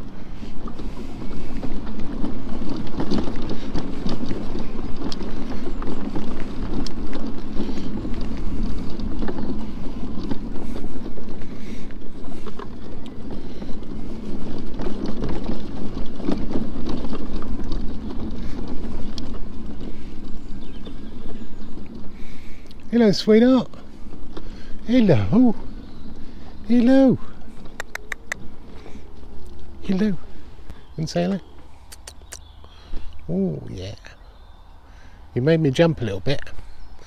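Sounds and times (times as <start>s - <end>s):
mobility scooter rumbling over mud: 0.0s - 37.0s
wind buffeting microphone: 0.0s - 37.0s
knocks and rattles from bumps: 0.6s - 31.6s.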